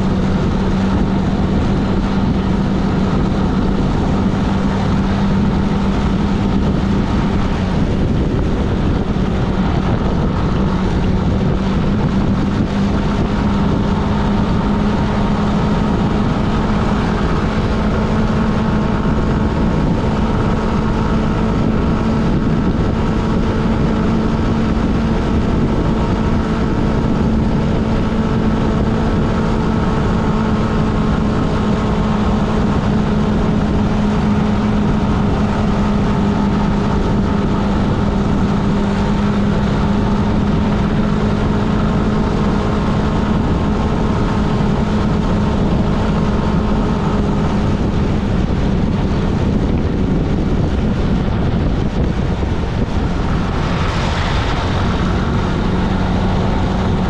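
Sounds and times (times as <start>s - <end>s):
engine hum: 0.0s - 57.0s
tyre and wind noise: 0.0s - 57.0s.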